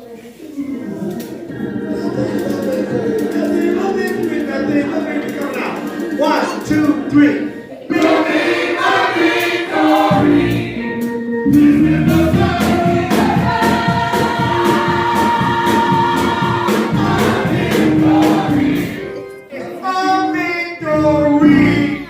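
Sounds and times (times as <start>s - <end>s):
gospel choir singing in harmony: 0.0s - 22.0s.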